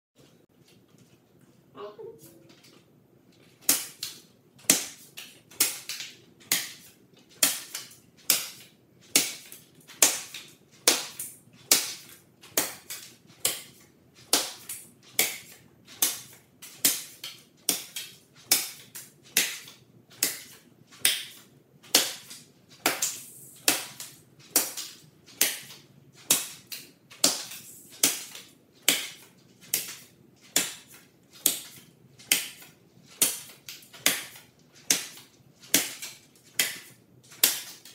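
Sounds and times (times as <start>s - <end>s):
cards smacking foam targets: 3.6s - 37.9s.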